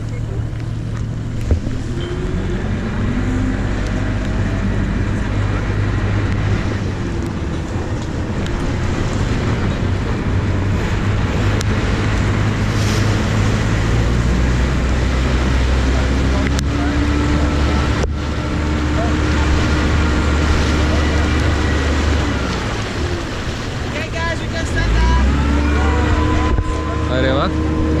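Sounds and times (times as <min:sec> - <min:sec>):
boat engine humming: 0:00.0 - 0:28.0.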